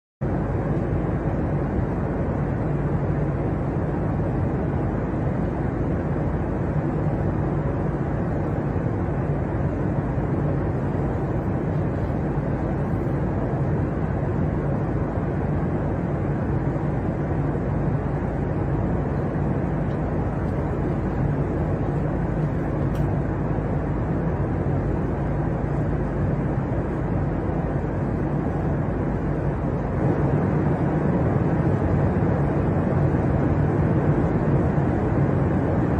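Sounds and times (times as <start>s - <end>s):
engines and rushing air: 0.2s - 35.9s
low hum: 0.2s - 35.9s.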